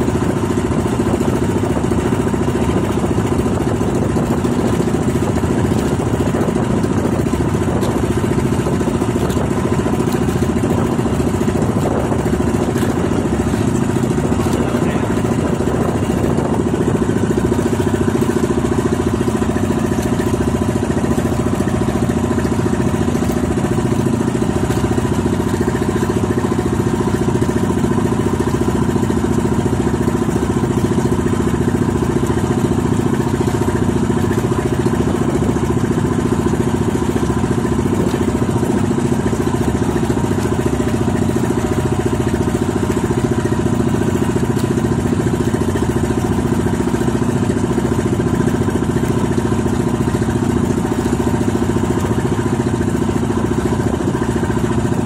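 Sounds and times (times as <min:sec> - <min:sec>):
motorboat engine running: 0:00.0 - 0:55.0
water wash under boat: 0:00.0 - 0:55.0.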